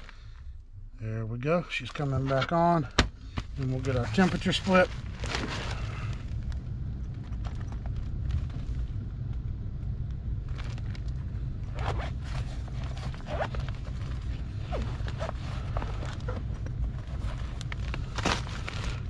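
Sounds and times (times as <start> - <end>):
air handler blower humming: 1.6 - 19.0.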